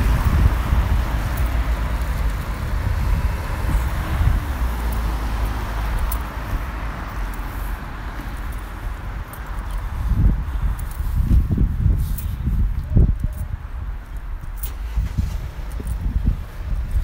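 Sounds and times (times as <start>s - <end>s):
cars rumbling along street: 0.0s - 17.0s.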